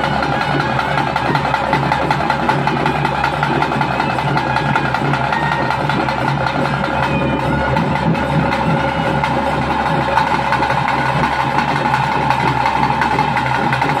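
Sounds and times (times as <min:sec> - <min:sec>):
fast dense drumming: 0:00.0 - 0:14.0.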